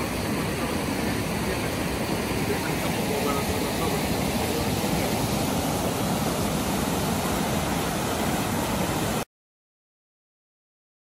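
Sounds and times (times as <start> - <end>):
river rapids roaring: 0.0 - 9.3.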